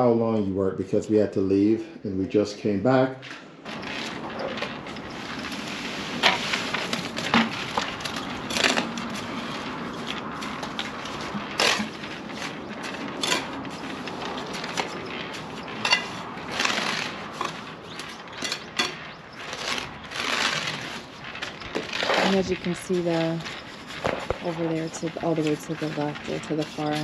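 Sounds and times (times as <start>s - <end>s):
tool scraping wet cement: 3.7s - 27.0s.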